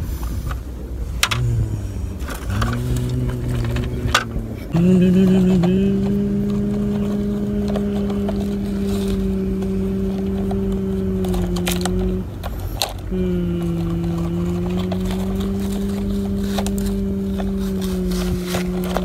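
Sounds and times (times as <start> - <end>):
motor hum: 0.0 - 19.0.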